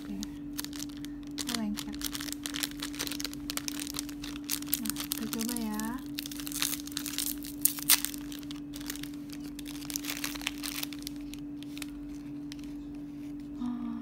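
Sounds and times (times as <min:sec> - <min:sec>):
plastic packet crinkling: 0:00.0 - 0:13.1
packet rustling: 0:00.0 - 0:13.4.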